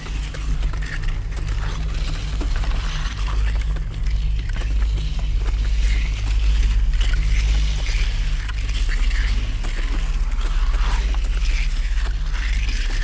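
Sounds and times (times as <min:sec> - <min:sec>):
scattered ticks: 0:00.0 - 0:13.0.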